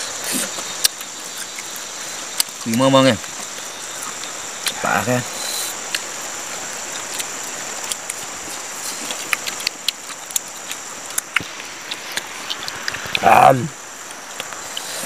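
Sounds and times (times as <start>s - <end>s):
high-pitched insect drone: 0.0s - 15.0s
outdoor hiss: 0.0s - 15.0s.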